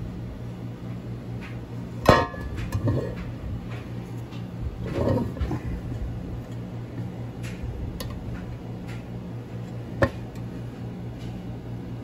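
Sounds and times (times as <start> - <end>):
household appliances humming: 0.0 - 12.0.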